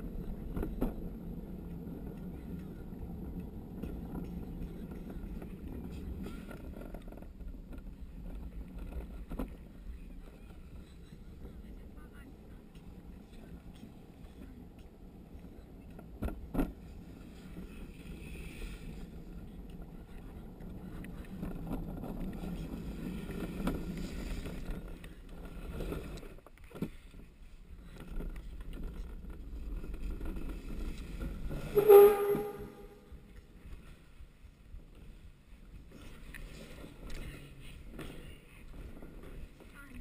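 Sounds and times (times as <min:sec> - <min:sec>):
wheels rumbling on concrete: 0:00.0 - 0:40.0.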